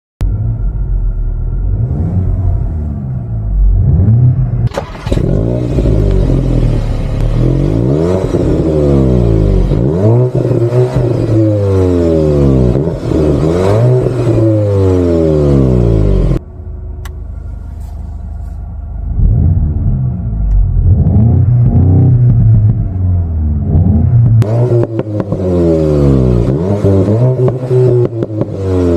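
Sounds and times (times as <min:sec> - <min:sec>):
car engine revving: 0:00.2 - 0:28.9.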